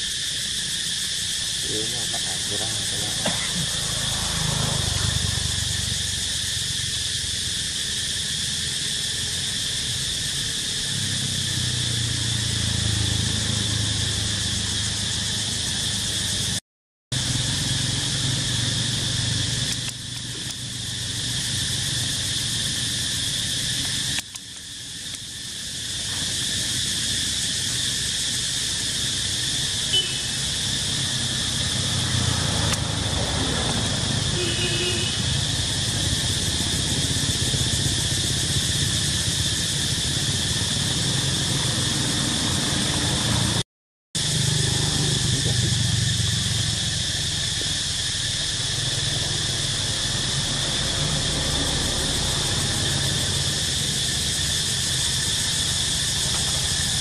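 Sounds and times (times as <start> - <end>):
high-pitched insect drone: 0.0 - 43.6, 44.2 - 57.0.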